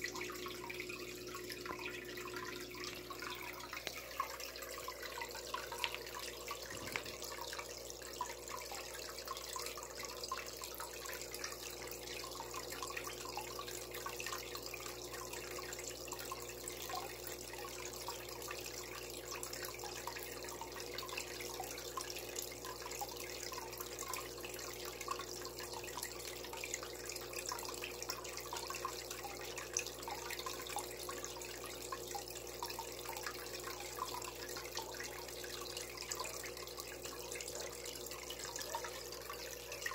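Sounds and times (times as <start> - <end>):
faint steady hum: 0.0 - 39.9
pond filter splashing and bubbling: 0.0 - 39.9.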